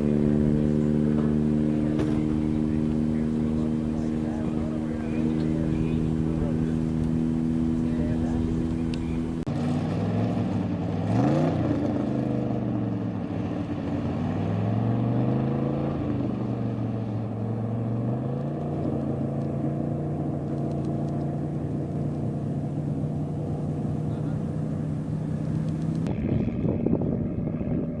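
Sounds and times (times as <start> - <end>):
racing engine revving and idling: 0.0 - 28.0.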